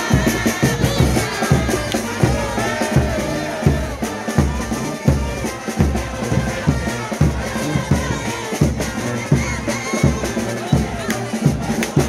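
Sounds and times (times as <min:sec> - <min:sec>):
bass drum and snare beat: 0:00.0 - 0:12.0
brass and saxophone melody: 0:00.0 - 0:12.0.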